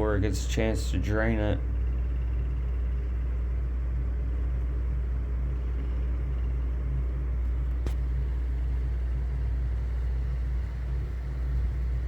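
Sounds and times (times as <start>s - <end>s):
equipment humming: 0.0s - 12.0s.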